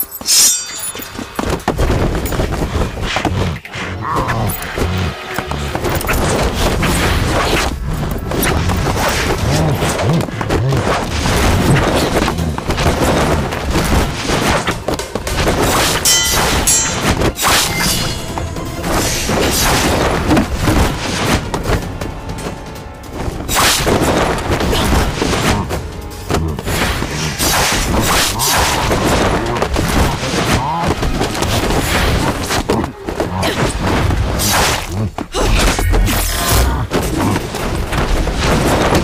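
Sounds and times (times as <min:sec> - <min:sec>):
dramatic action music: 0:00.0 - 0:39.0.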